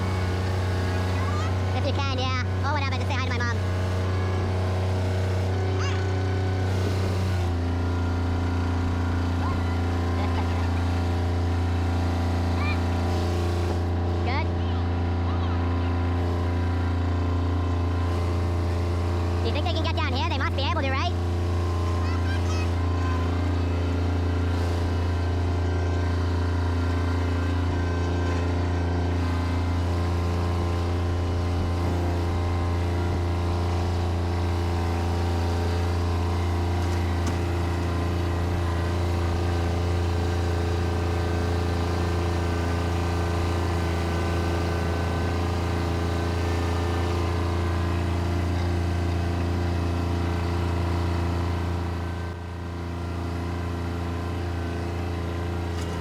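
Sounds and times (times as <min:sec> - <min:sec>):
tractor engine humming: 0:00.0 - 0:56.0.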